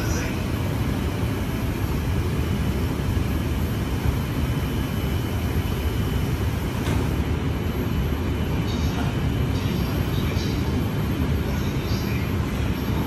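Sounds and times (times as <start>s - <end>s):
electric train low rumble: 0.0s - 13.0s.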